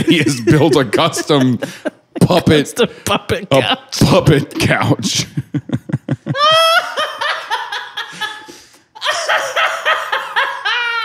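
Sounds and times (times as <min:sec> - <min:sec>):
man laughing: 0:00.0 - 0:11.0.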